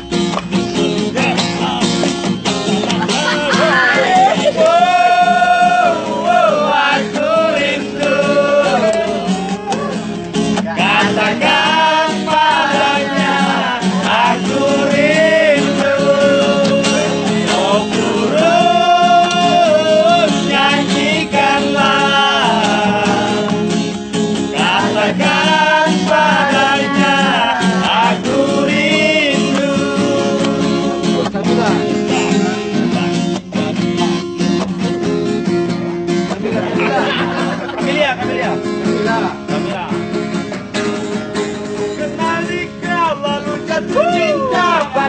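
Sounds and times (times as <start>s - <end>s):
acoustic guitar: 0.0s - 45.0s
men singing: 0.9s - 34.3s, 36.4s - 39.4s, 41.7s - 45.0s.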